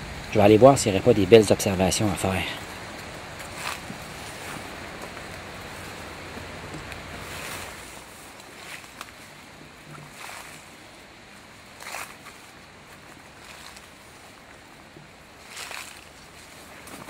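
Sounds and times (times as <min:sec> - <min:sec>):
faint steady hiss: 0:00.0 - 0:17.0
footsteps through dry undergrowth: 0:02.2 - 0:17.0.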